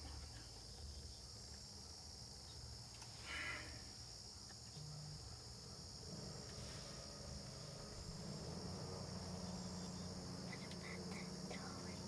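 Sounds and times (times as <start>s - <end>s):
crickets and insects chirring: 0.0s - 12.0s.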